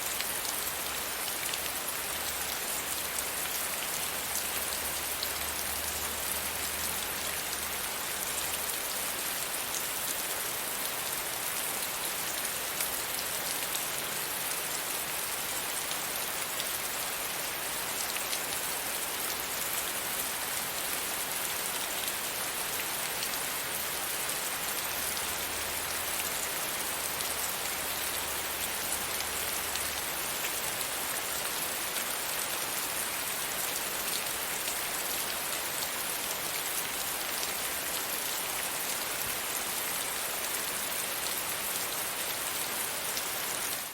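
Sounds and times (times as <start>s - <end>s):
soft rain falling: 0.0s - 43.9s.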